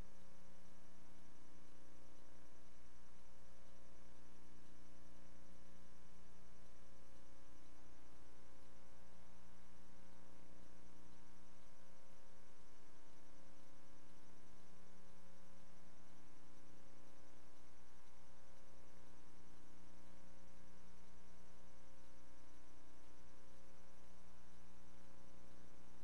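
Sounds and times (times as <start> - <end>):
electrical mains hum: 0.0 - 26.0
faint hiss: 0.0 - 26.0.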